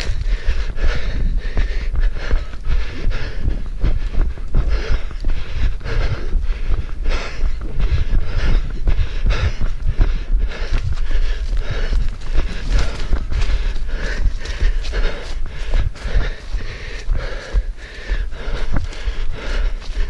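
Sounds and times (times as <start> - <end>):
hard rhythmic breathing: 0.0 - 20.0
heavy low thumping: 0.0 - 20.0
running footsteps: 0.0 - 20.0.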